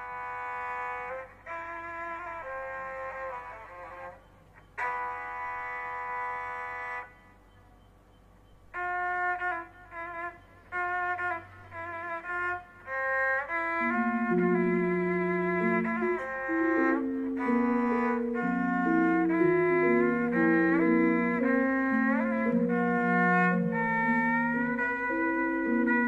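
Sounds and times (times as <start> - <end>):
slow melody of long notes: 0.0 - 26.0.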